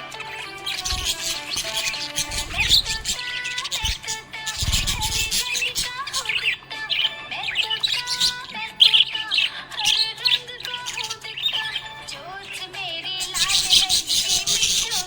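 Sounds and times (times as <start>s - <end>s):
budgerigars chirping and twittering: 0.0s - 15.0s
soft background music: 0.0s - 15.0s.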